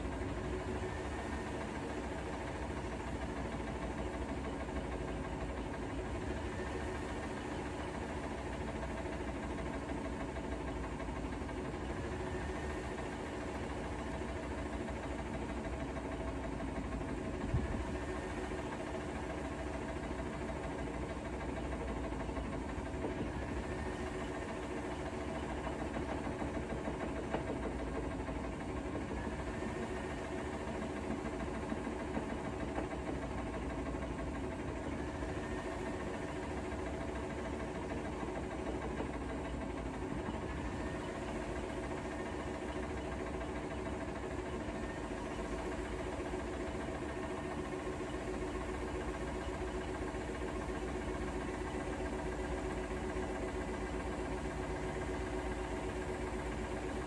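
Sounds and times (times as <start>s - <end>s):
washing machine running: 0.0s - 57.0s.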